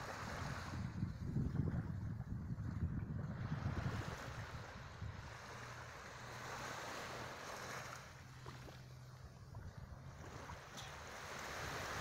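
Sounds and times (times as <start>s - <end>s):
small waves lapping on sand: 0.0s - 12.0s
wind on microphone: 0.0s - 12.0s.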